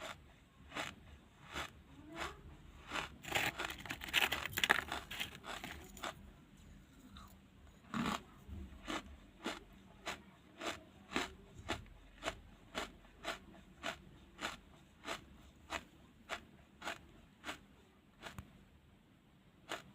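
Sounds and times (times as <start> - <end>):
charcoal chewing crunches: 0.0 - 6.2, 7.1 - 17.6, 18.2 - 18.4, 19.7 - 19.9.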